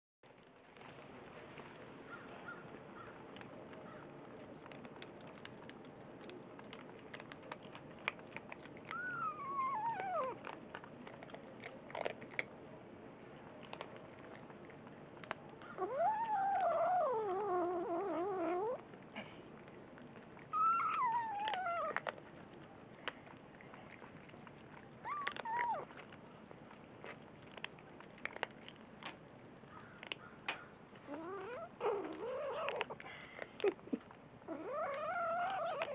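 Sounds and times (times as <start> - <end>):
kibble crunching: 0.3 - 35.9
kittens growling: 3.8 - 12.5, 13.6 - 29.1, 31.0 - 35.9.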